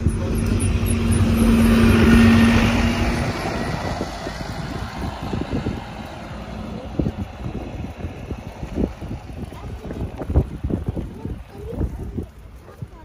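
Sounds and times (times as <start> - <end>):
vehicle passing by: 0.0 - 11.5
street background: 0.0 - 13.0
wind buffeting microphone: 0.0 - 13.0.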